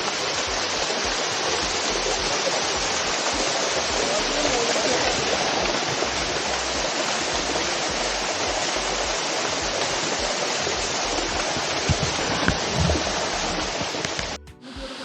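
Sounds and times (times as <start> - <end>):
waterfall pouring over rocks: 0.0 - 14.4
soft low thumps: 0.0 - 14.6.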